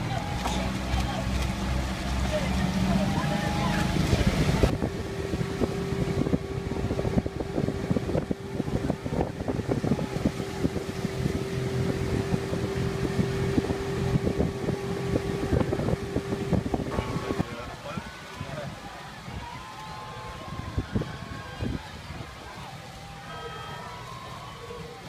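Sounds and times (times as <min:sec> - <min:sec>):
outboard engine humming: 0:00.0 - 0:25.0
wind buffeting microphone: 0:00.0 - 0:25.0.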